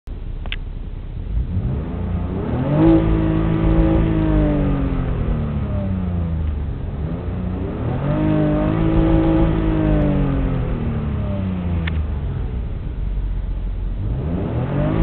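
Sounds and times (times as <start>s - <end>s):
car engine revving: 0.5s - 15.0s.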